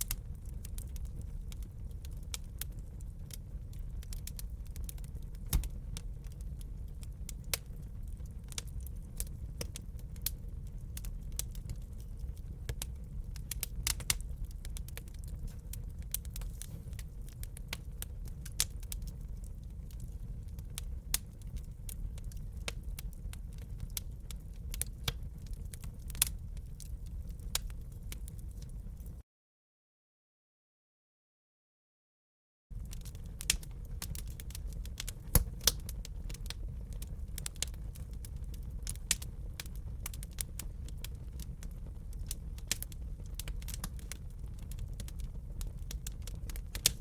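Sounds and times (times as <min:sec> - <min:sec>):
fire popping and snapping: 0:00.0 - 0:29.2, 0:32.7 - 0:47.0
low fire rumble: 0:00.0 - 0:29.2, 0:32.7 - 0:47.0.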